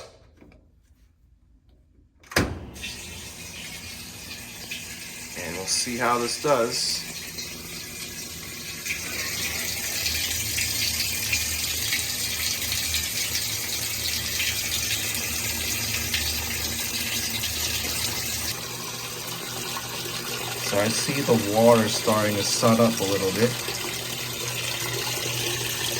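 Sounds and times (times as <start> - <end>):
water gushing into washing machine: 2.6 - 25.9.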